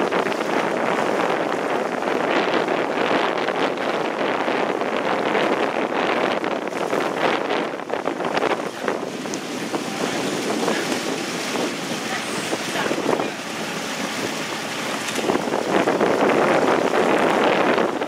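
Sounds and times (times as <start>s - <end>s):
rushing water: 0.0s - 18.0s
wind buffeting microphone: 0.0s - 18.0s.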